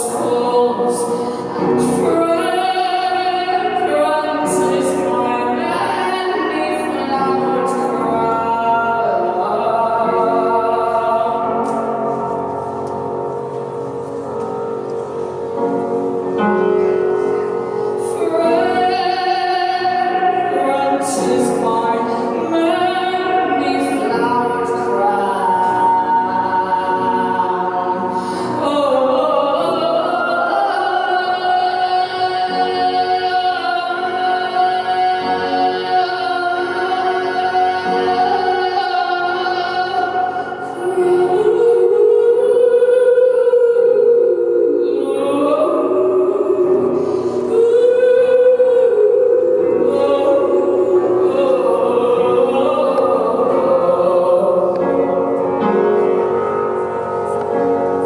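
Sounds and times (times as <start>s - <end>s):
woman singing into microphone: 0.0s - 13.1s, 17.6s - 56.6s.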